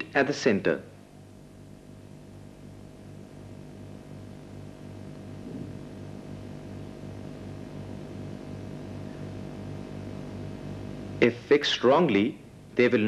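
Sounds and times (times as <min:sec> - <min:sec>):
thin steady whine: 0:00.0 - 0:13.0
pulsing low machine hum: 0:00.9 - 0:12.8.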